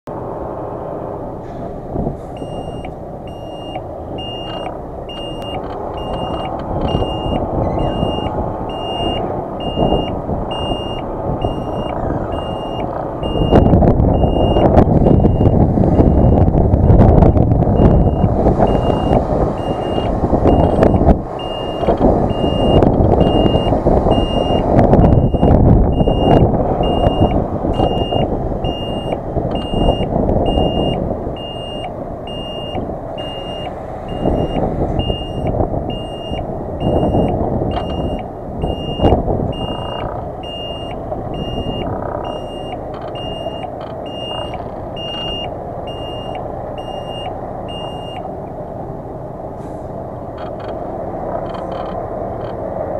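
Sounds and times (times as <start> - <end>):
truck diesel engine rumble: 0.1 - 52.9
reversing alarm beeping: 2.4 - 48.3.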